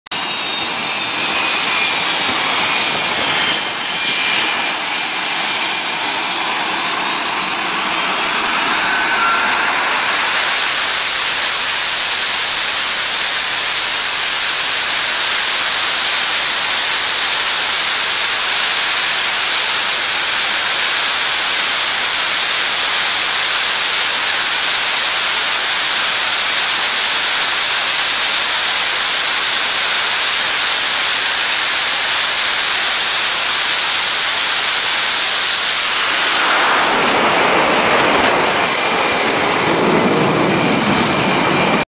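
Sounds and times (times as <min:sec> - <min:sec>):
jet engine roar: 0:00.0 - 0:41.9
faint turbine whine: 0:00.1 - 0:41.9.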